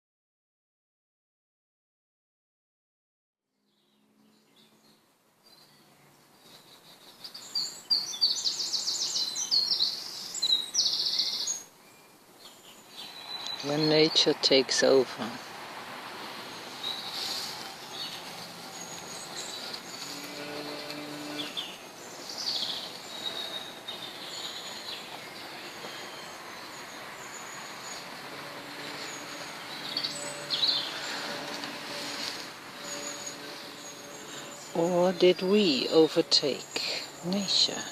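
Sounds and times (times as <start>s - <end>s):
songbird trills and chirps: 3.6s - 15.5s, 16.5s - 37.9s
outdoor hiss: 5.1s - 37.9s.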